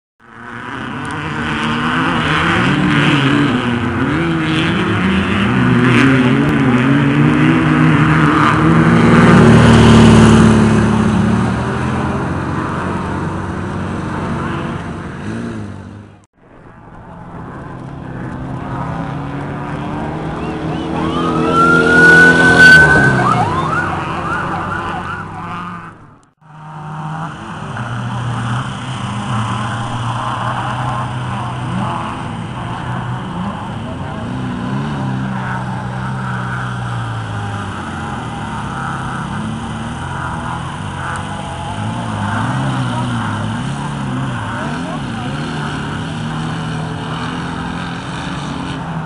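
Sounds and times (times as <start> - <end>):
race car engines revving: 0.2 - 49.0.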